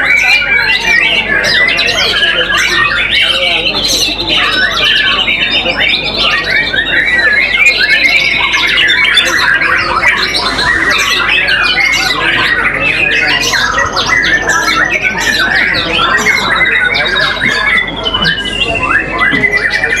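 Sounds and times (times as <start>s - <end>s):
birds singing in chorus: 0.0s - 20.0s.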